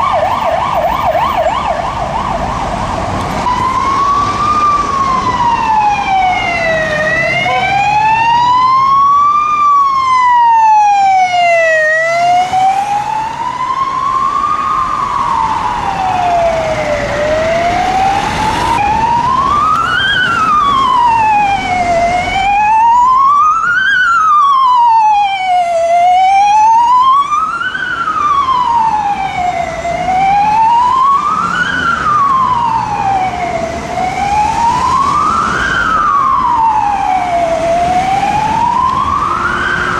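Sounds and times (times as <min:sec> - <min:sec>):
ambulance wail siren: 0:00.0 - 0:39.9
siren wailing: 0:00.0 - 0:39.9.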